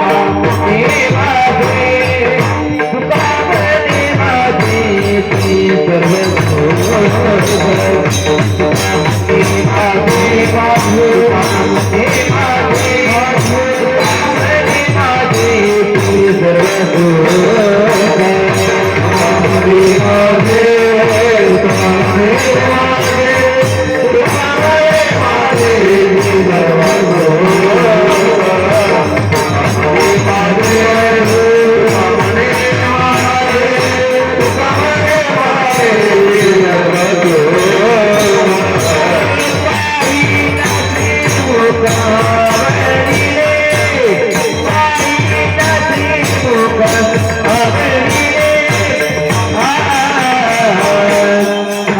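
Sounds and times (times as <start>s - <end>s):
drum beat: 0.0s - 51.9s
jingling hand percussion: 0.0s - 51.9s.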